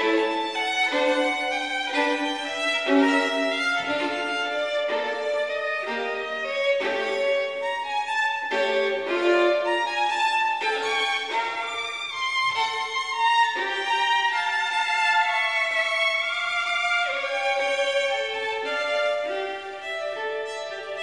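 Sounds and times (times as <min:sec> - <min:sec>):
violin melody: 0:00.0 - 0:21.0.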